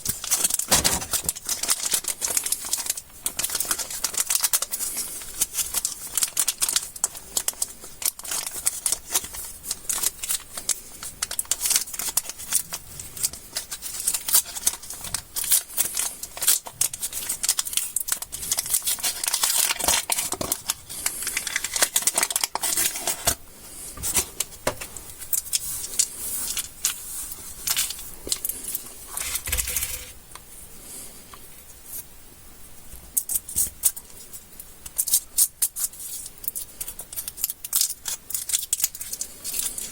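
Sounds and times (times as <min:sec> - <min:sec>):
plastic wrappers crinkling: 0:00.0 - 0:23.4, 0:24.0 - 0:30.2, 0:35.0 - 0:39.9.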